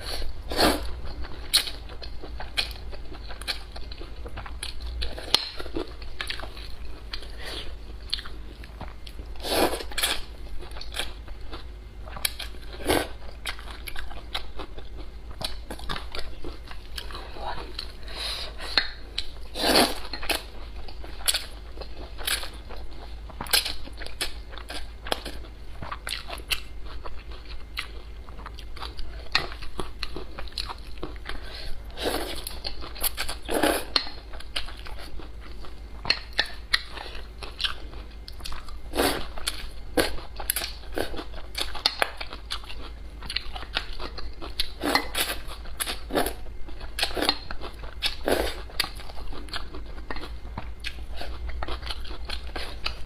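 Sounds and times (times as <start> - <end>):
crunching and wet chewing: 0.0 - 53.0.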